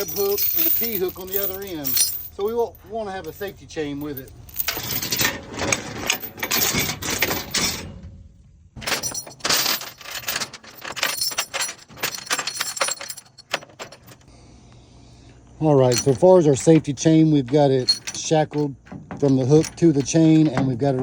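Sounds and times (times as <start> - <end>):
steel chain clinking and rattling: 0.0 - 7.8, 8.8 - 14.3, 15.8 - 21.0.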